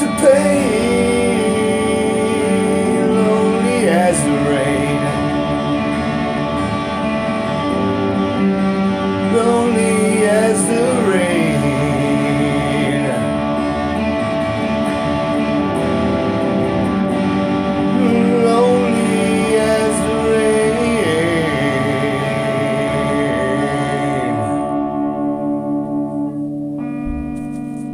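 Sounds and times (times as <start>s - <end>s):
sliding melody line: 0.0s - 24.6s
guitar song music: 0.0s - 27.9s.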